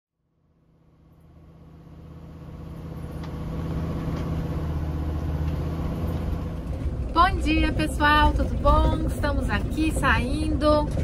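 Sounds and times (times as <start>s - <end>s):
vehicle engine and road noise: 0.1s - 11.0s.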